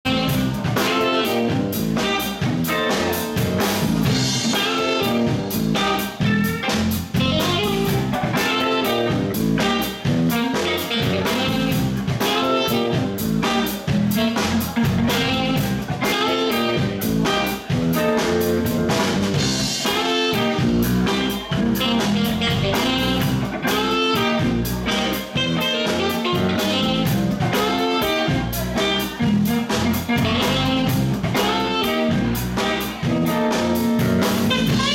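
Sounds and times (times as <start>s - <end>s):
bass: 0.0s - 34.9s
drum kit: 0.0s - 34.9s
electric guitar: 0.1s - 34.9s
saxophone: 0.1s - 34.9s.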